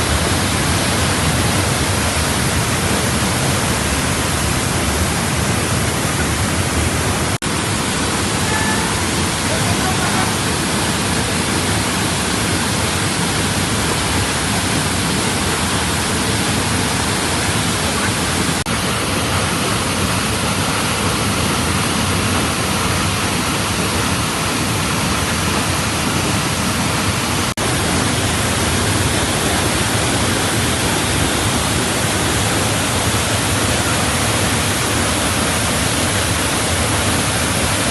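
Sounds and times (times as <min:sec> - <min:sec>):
waterfall pouring: 0:00.0 - 0:37.9.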